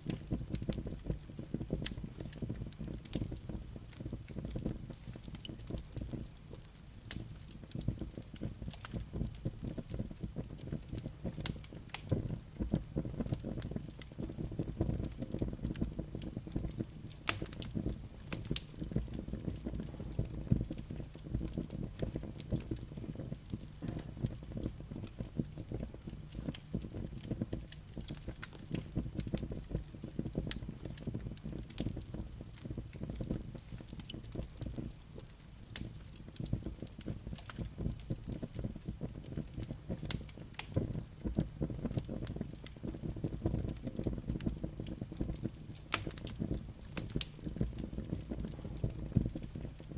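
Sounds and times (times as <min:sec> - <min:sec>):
fire burning with crackles: 0:00.0 - 0:49.9.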